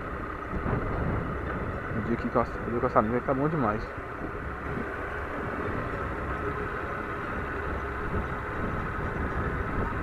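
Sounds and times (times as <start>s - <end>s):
wind noise on microphone: 0.0s - 2.7s, 4.1s - 10.0s.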